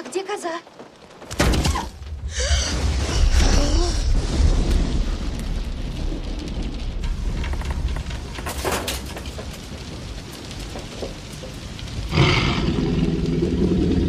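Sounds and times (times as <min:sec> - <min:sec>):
steady rain: 0:00.0 - 0:14.0
deep low rumble: 0:01.7 - 0:14.0.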